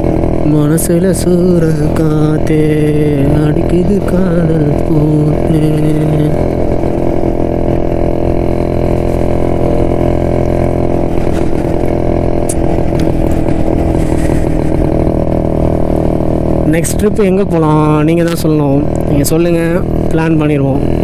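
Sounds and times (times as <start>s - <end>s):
two-stroke motorcycle engine running: 0.0s - 21.0s
wind and road noise: 0.0s - 21.0s.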